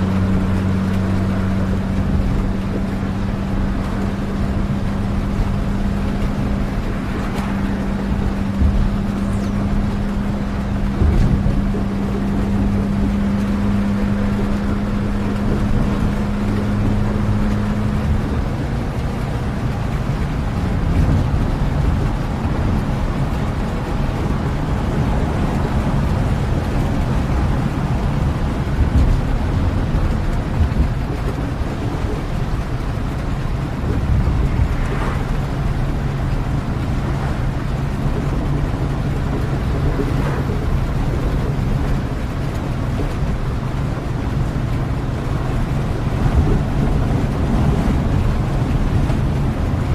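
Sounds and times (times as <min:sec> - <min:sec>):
engine hum: 0:00.0 - 0:49.9
vehicle rumbling in rain: 0:00.0 - 0:49.9.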